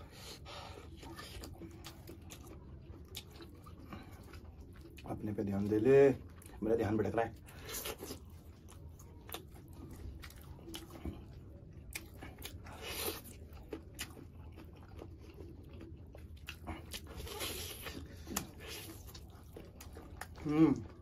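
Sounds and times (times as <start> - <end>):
chewing and biting meat: 0.1 - 21.0.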